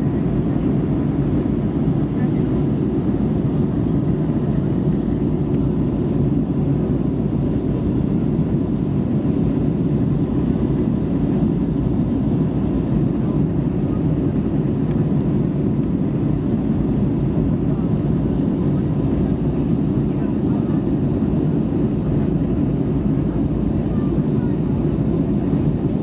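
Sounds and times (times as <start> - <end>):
airplane cabin rumble: 0.0 - 26.0.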